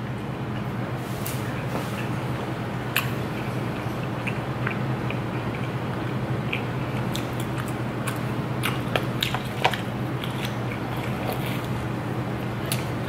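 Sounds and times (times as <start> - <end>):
steady low hum: 0.0 - 13.0
chewing food: 1.4 - 13.0.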